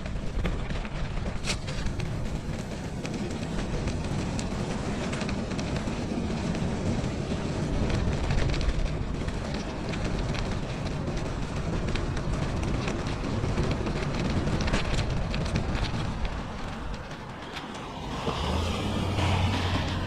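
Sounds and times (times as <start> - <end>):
bike clicks and rattles: 0.0 - 20.0
rumble of wind and tyres: 0.0 - 20.0.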